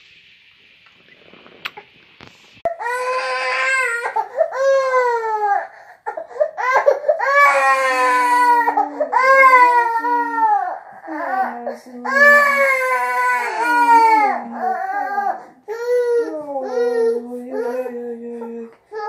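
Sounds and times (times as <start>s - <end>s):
baby crying: 2.7s - 18.0s.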